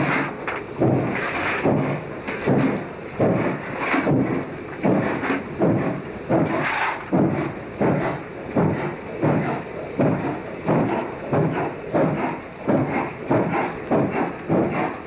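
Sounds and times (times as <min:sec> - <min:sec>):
steam hissing: 0:00.0 - 0:15.0
steam locomotive exhaust beats: 0:00.0 - 0:15.0.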